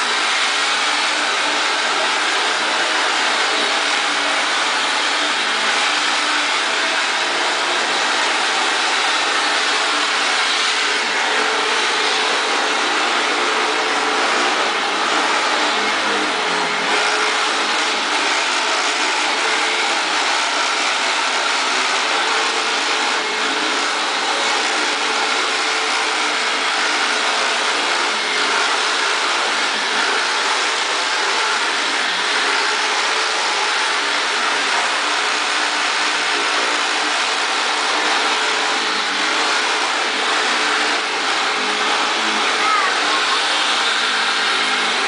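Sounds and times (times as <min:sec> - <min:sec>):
vacuum cleaner running over rug: 0:00.0 - 0:45.0.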